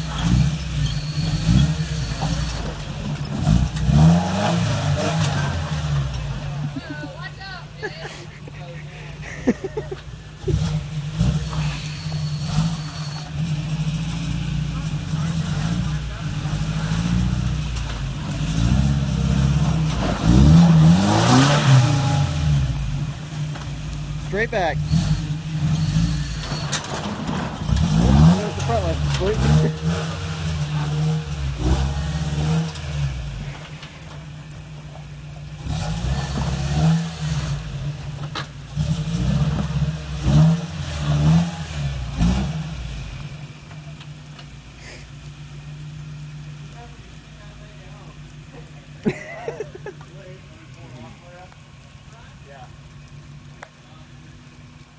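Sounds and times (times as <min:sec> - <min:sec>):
truck engine running and revving: 0:00.0 - 0:54.9.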